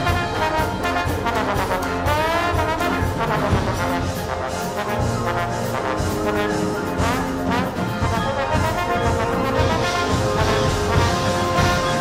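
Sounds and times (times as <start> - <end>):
solo trombone: 0.0 - 12.0
wind ensemble playing: 0.0 - 12.0.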